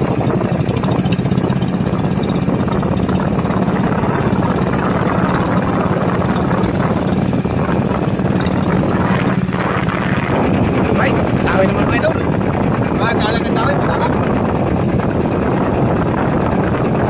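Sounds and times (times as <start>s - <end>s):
rushing water: 0.0s - 15.4s
boat engine humming: 0.0s - 17.0s
wind: 0.0s - 17.0s.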